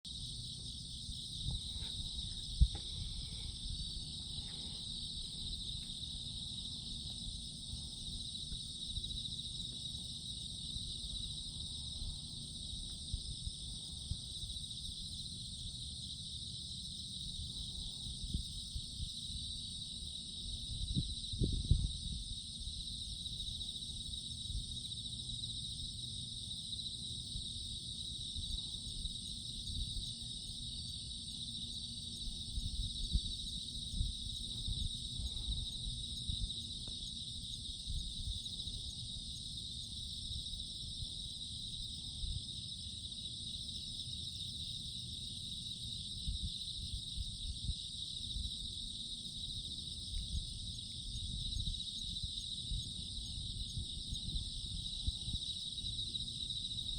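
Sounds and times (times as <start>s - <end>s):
insects trilling: 0.1s - 56.9s.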